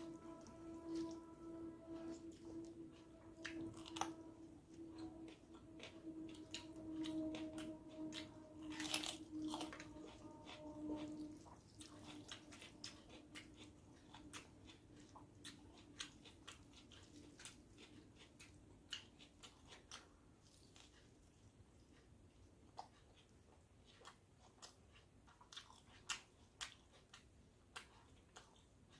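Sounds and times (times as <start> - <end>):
person chewing crunchy food: 0.0 - 21.2, 21.8 - 28.9
faint steady hum: 0.0 - 28.9.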